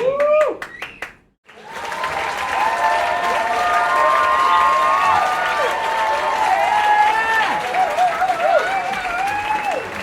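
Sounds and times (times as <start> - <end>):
audience applauding: 0.4 - 10.0
people cheering: 1.5 - 10.0.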